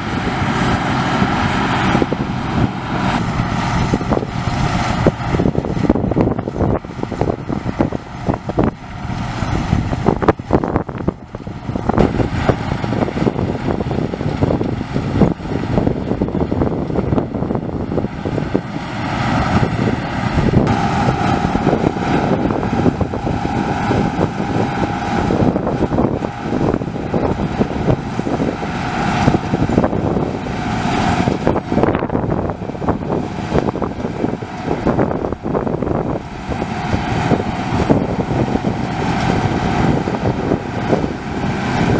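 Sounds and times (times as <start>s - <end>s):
combine harvester running: 0.0s - 41.9s
steady whine: 0.0s - 41.9s
wind on microphone: 0.0s - 41.9s.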